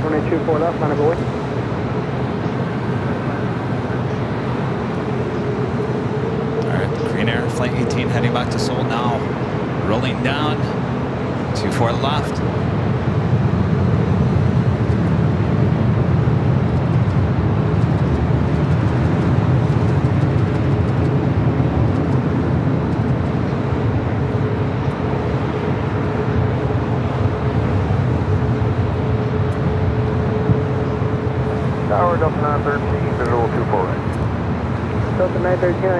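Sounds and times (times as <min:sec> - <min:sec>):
faint steady hum: 0:00.0 - 0:35.9
jet engines rumbling: 0:00.0 - 0:35.9.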